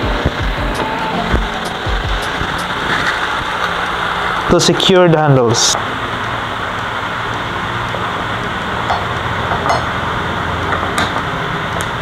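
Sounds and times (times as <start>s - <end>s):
steady hiss: 0.0s - 10.6s.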